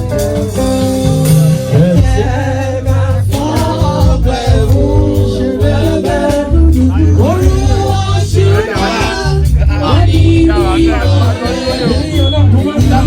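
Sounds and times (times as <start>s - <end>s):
church band music: 0.0s - 13.0s
voices singing: 1.6s - 13.0s.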